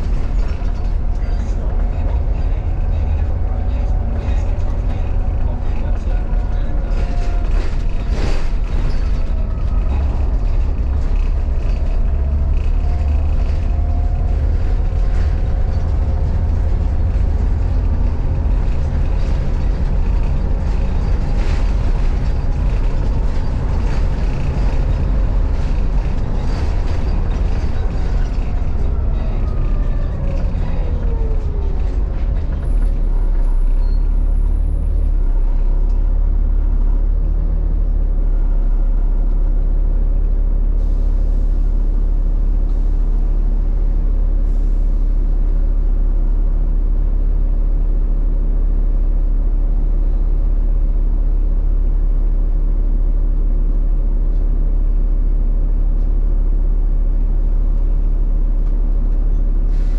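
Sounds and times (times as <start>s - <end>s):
bus diesel engine rumble: 0.0s - 59.9s
road noise: 0.0s - 59.9s.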